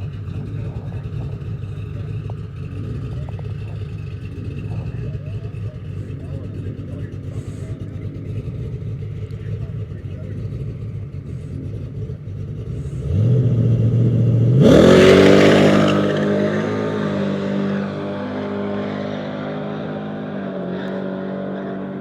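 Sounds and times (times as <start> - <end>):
truck engine revving and pulling away: 0.0 - 22.0.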